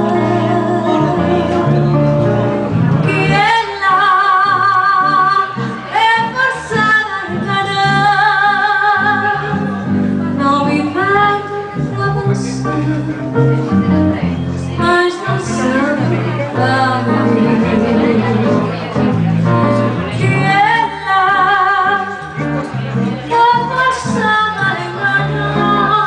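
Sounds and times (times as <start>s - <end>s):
woman singing with vibrato: 0.0s - 1.8s, 3.1s - 13.4s, 14.8s - 18.9s, 20.0s - 22.2s, 23.2s - 26.0s
acoustic guitar: 0.0s - 26.0s.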